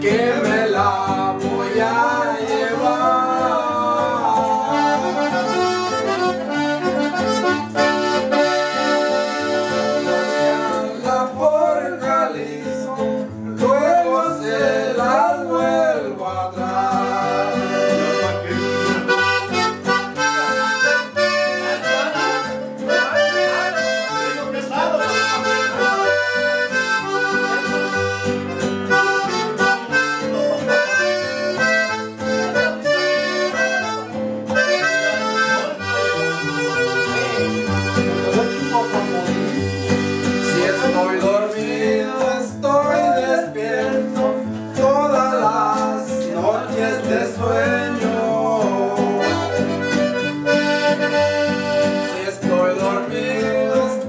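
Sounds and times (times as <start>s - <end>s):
button accordion playing a tune: 0.0s - 11.4s, 16.9s - 44.7s, 46.0s - 54.0s.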